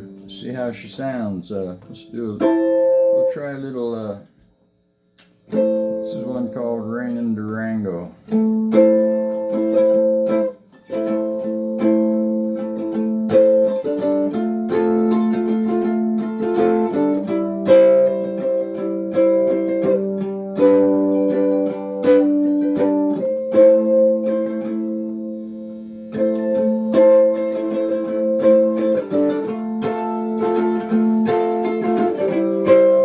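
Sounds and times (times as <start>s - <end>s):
plucked mandolin tune: 1.8s - 3.5s, 5.5s - 7.2s, 8.2s - 33.0s.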